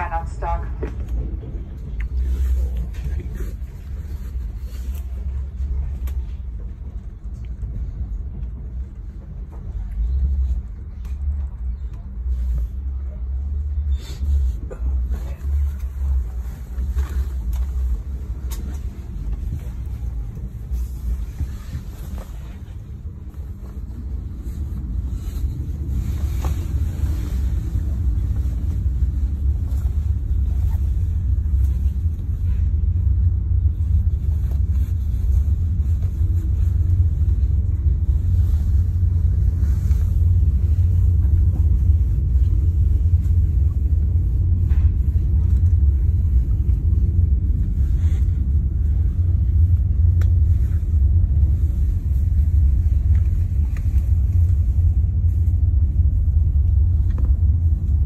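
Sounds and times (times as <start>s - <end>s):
train running with low rumble: 0.0s - 58.0s.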